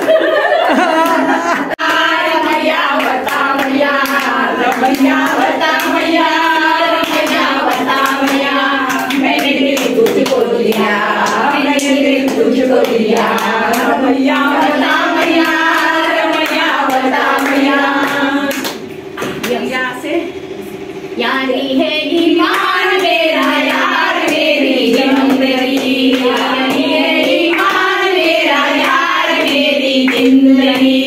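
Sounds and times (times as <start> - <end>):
rhythmic hand clapping: 0.0 - 19.7, 22.1 - 31.0
women singing in chorus: 0.7 - 18.8, 21.7 - 31.0.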